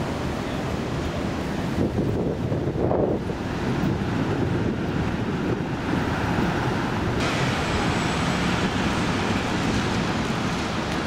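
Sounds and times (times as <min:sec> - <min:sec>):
light city traffic hiss: 0:00.0 - 0:11.0
wind buffeting microphone: 0:00.0 - 0:11.0.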